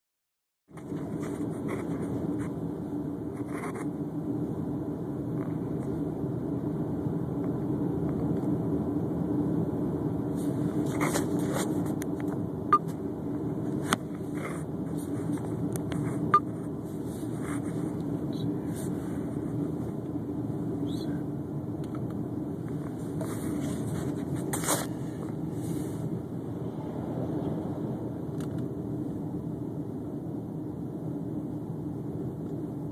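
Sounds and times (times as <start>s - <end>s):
car cabin road drone: 0.7s - 32.9s.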